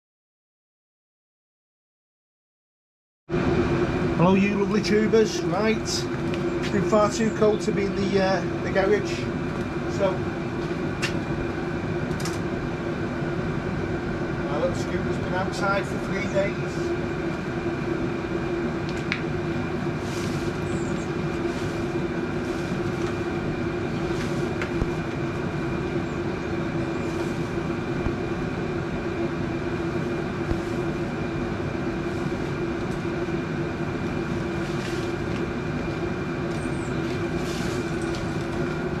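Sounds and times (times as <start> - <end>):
steady mechanical hum: 3.3 - 39.0.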